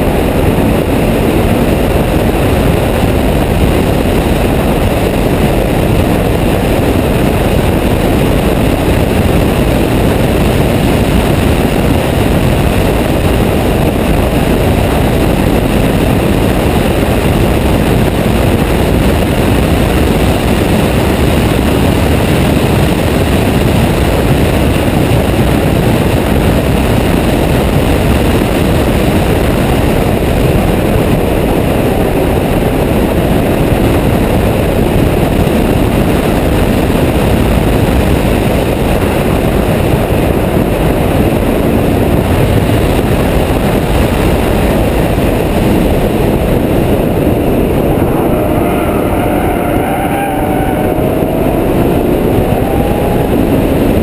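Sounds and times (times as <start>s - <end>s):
car engine running: 0.0s - 54.0s
wind and road noise: 0.0s - 54.0s.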